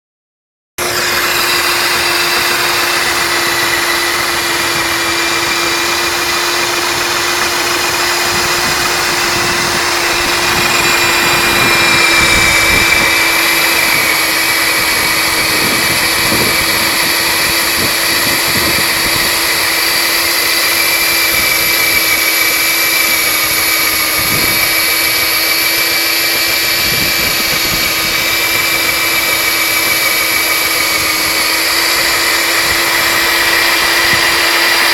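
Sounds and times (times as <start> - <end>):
core drill motor whining: 0.8 - 34.9.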